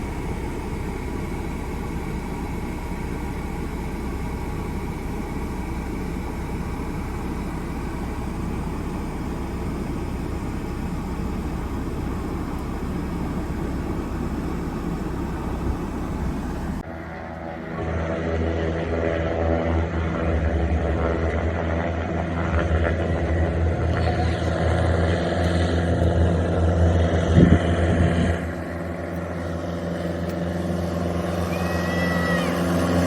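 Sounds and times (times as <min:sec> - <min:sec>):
aircraft engine droning: 0:00.0 - 0:33.0.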